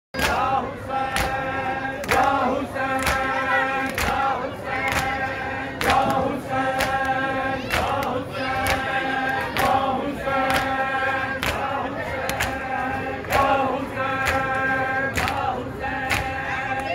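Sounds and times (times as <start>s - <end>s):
men chanting in chorus: 0.2s - 16.9s.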